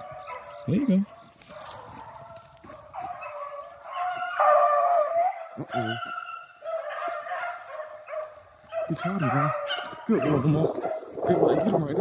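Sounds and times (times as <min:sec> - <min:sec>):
dog baying and howling: 0:00.0 - 0:12.0.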